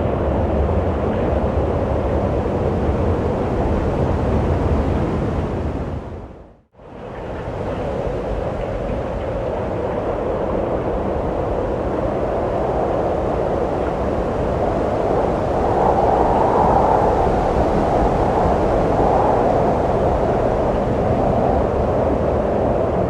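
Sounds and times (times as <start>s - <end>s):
wind blowing: 0.0s - 23.0s.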